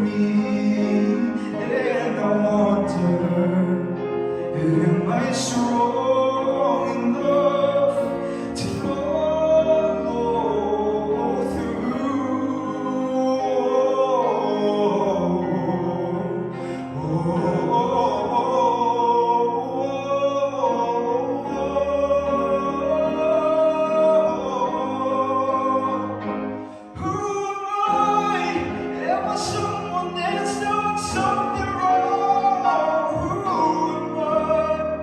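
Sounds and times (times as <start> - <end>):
person singing: 0.0 - 35.0.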